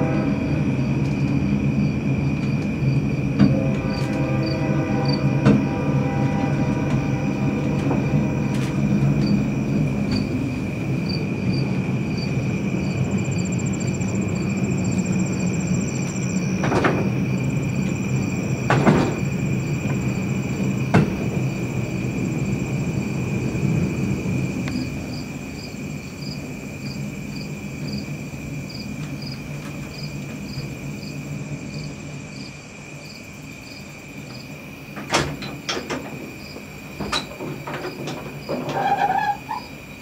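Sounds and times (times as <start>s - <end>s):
crickets trilling: 0.0s - 40.0s
funicular car rumbling on track: 0.0s - 40.0s.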